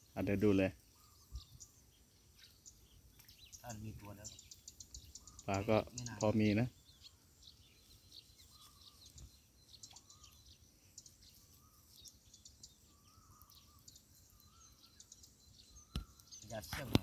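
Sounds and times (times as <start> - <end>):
faint bird chirps: 0.0 - 17.0
bird warbling call: 0.2 - 17.0.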